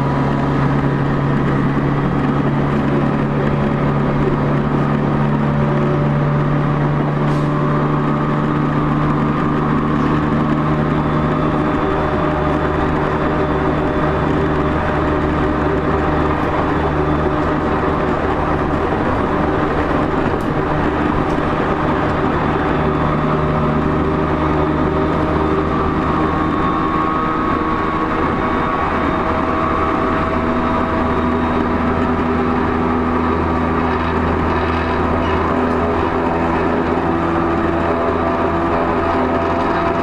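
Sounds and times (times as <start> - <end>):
train running rumble and hum: 0.0 - 40.0.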